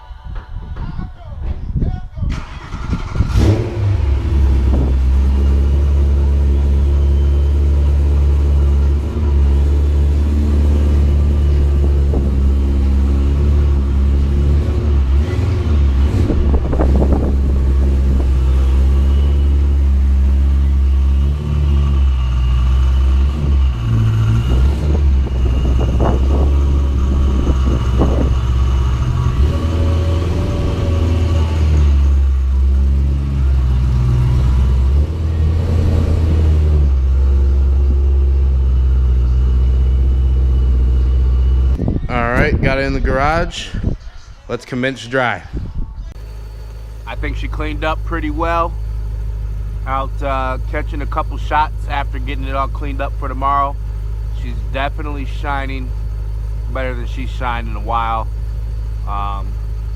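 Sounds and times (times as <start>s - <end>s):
car engine idling: 2.4s - 42.9s, 46.1s - 59.9s.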